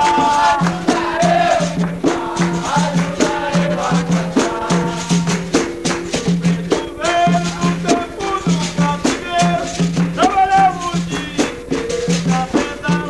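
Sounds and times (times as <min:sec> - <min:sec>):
person singing: 0:00.0 - 0:05.4, 0:06.5 - 0:13.0
berimbaus playing rhythm: 0:00.0 - 0:13.0
hand percussion: 0:00.0 - 0:13.0
shaker rattles: 0:00.0 - 0:13.0.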